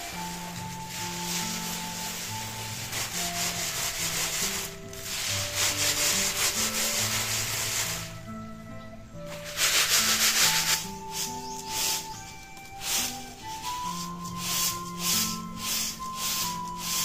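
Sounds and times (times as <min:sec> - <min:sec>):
coffee beans rustling on tray: 0:00.0 - 0:08.2, 0:09.3 - 0:17.0.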